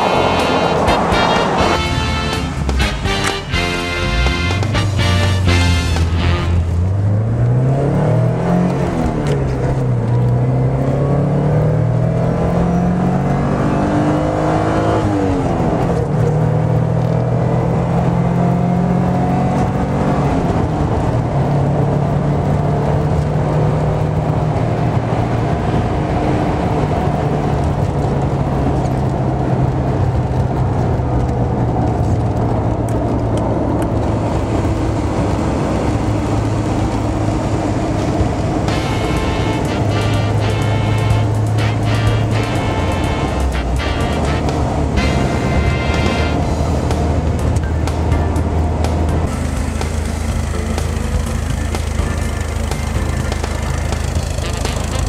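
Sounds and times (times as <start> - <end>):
car engine accelerating: 0.0 - 55.0
road noise: 0.0 - 55.0.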